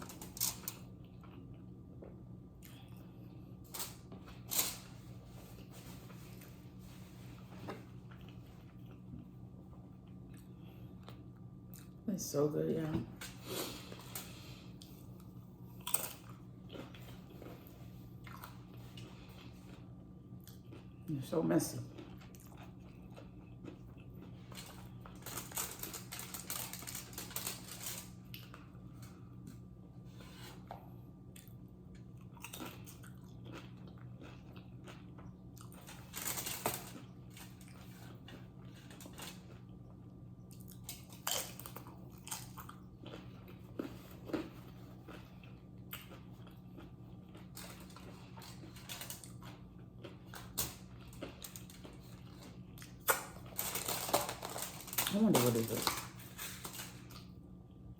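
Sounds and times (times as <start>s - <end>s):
person chewing food: 0.0s - 12.0s, 13.3s - 21.1s, 21.8s - 57.8s.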